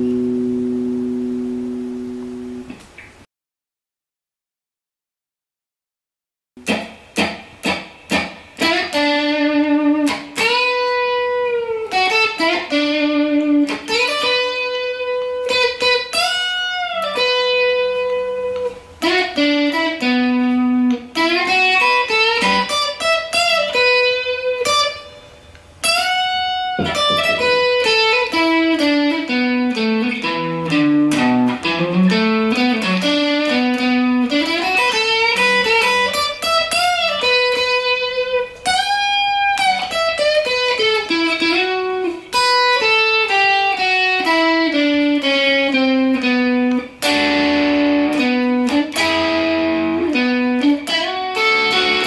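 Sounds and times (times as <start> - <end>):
plucked guitar melody: 0.0 - 3.2, 6.6 - 52.0.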